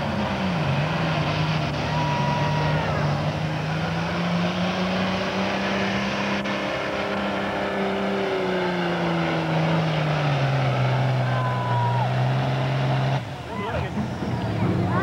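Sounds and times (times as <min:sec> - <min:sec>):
tractor diesel engine at high revs: 0:00.0 - 0:15.0.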